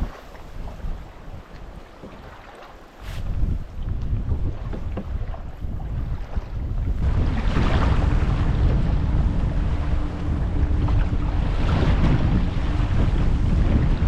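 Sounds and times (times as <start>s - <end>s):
water slapping against canoe: 0.0s - 14.0s
wind buffeting microphone: 0.0s - 14.0s.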